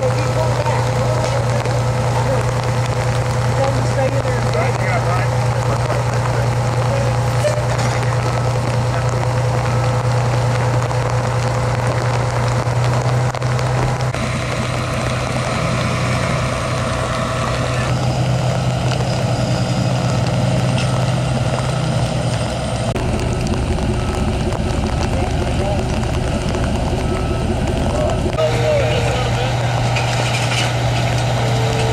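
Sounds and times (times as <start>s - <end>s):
large truck engine idling: 0.0s - 31.9s.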